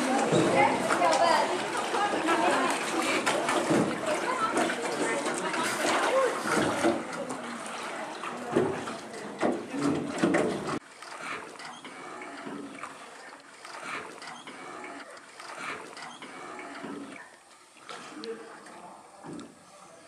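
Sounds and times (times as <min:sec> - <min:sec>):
water splashing around rowboat: 0:00.0 - 0:19.7.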